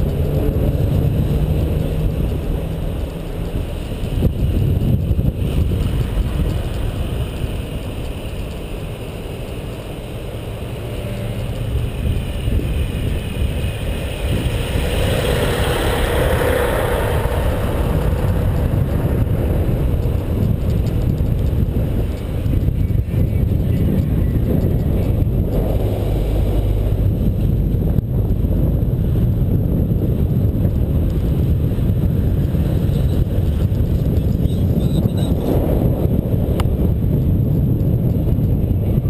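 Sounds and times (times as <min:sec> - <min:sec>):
cars and trucks passing: 0:00.0 - 0:39.0
wind rumble on microphone: 0:00.0 - 0:39.0.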